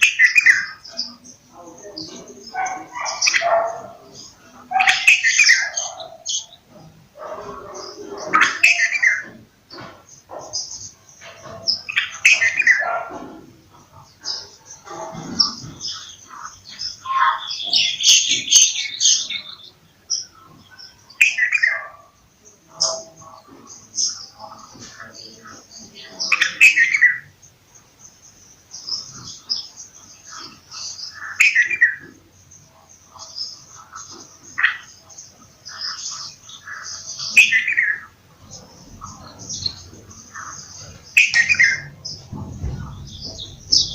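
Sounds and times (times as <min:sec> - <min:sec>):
bulbul chattering calls: 0:00.0 - 0:43.9.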